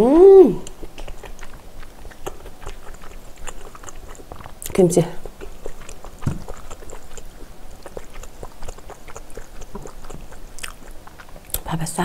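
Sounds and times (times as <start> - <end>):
chewing with wet clicks: 0.6 - 11.9.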